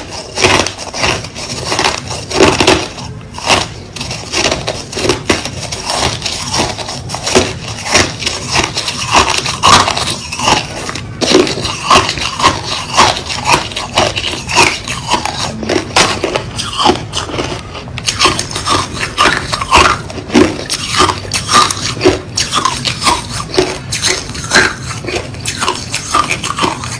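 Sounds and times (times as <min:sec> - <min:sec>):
chewing crushed ice: 0:00.0 - 0:26.9.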